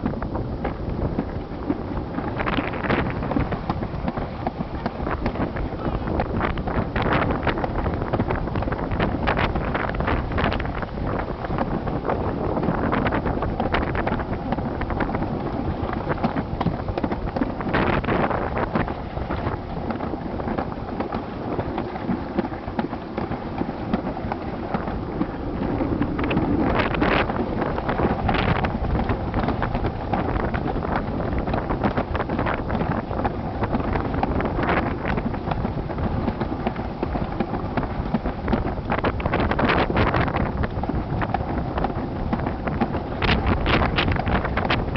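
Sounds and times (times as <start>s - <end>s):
sled rumbling on concrete track: 0.0s - 44.9s
wind buffeting microphone: 0.0s - 44.9s.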